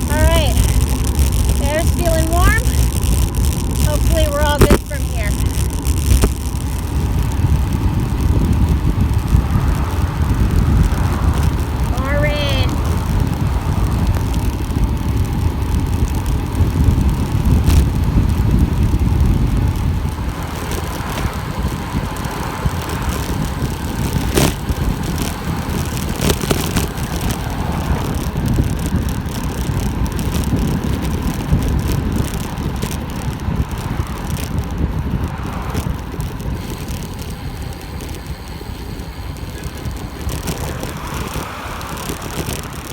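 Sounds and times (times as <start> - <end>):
bicycle tyres on road: 0.0 - 42.9
sharp clicks and knocks: 0.0 - 42.9
wind rush on microphone: 0.0 - 42.9.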